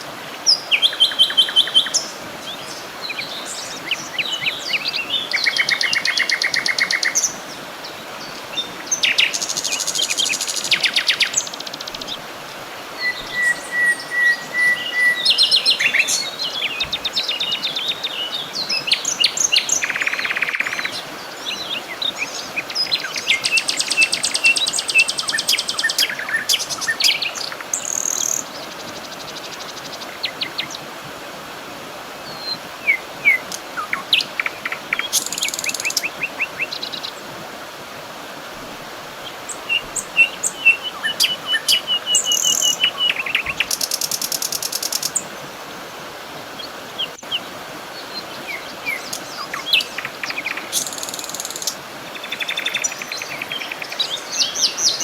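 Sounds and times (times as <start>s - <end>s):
birds singing and calling: 0.0s - 30.8s, 32.2s - 37.3s, 39.2s - 45.5s, 46.5s - 55.0s
steady background hiss: 0.0s - 55.0s.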